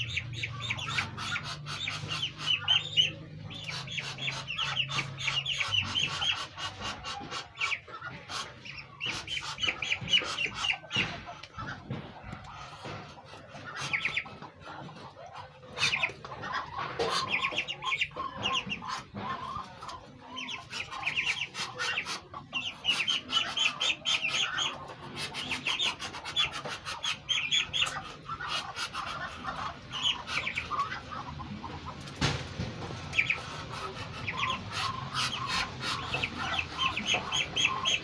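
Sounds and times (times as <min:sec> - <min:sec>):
ducklings peeping: 0:00.0 - 0:38.0.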